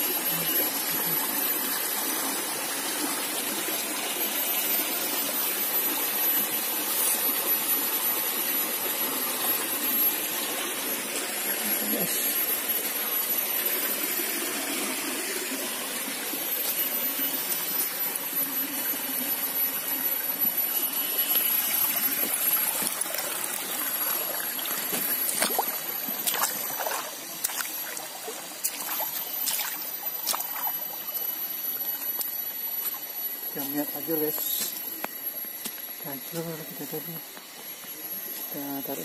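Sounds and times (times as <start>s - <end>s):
stream burbling over rocks: 0.0s - 35.8s.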